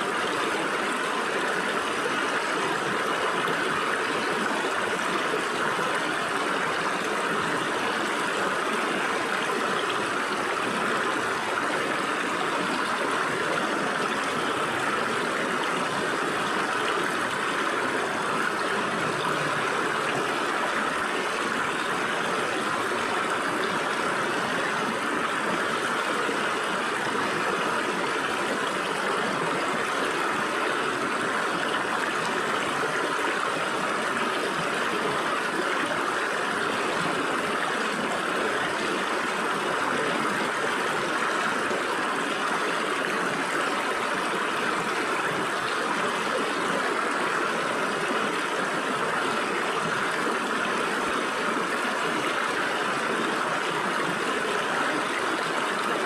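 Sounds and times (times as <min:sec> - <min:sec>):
stream water splashing over rocks: 0:00.0 - 0:56.0.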